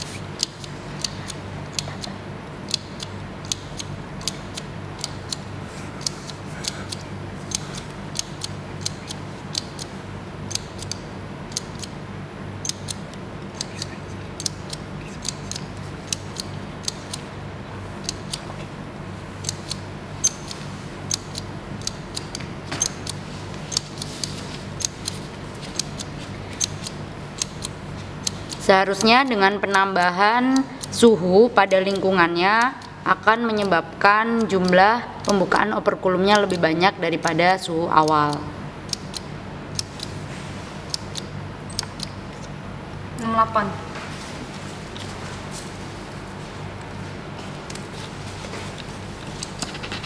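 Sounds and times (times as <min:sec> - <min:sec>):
tally counter clicking: 0:00.0 - 0:12.0, 0:12.6 - 0:17.3, 0:18.0 - 0:18.6, 0:19.4 - 0:40.2, 0:40.9 - 0:42.5, 0:48.8 - 0:50.0
low steady hum: 0:00.0 - 0:50.0.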